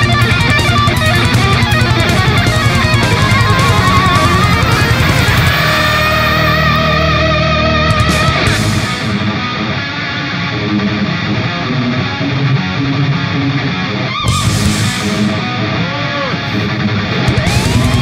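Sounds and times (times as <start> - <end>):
guitar-led background music: 0.0 - 18.0.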